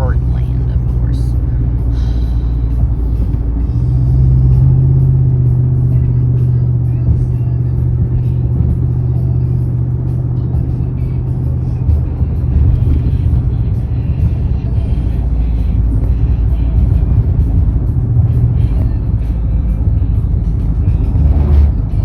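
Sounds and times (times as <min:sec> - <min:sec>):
low engine drone: 0:00.0 - 0:22.0
road noise inside car: 0:00.0 - 0:22.0.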